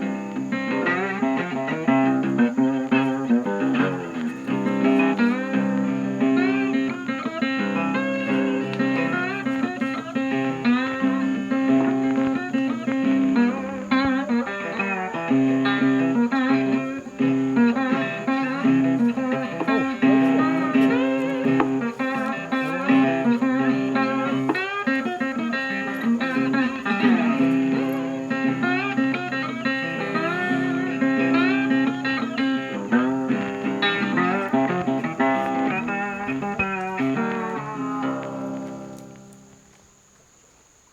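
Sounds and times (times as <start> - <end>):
blues guitar music: 0.0 - 40.2.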